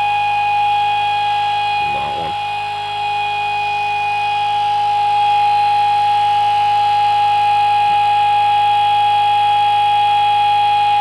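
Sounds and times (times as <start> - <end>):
electric motor whine: 0.6 - 10.4.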